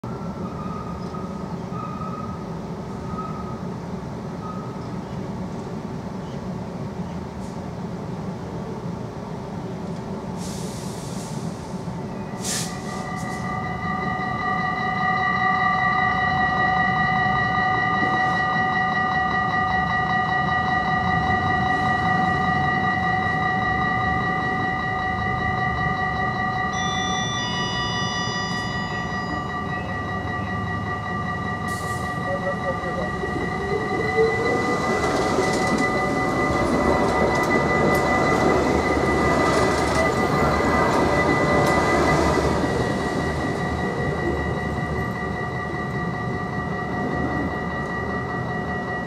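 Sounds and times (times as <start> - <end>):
level crossing warning bells: 0.0 - 6.6, 11.4 - 49.0.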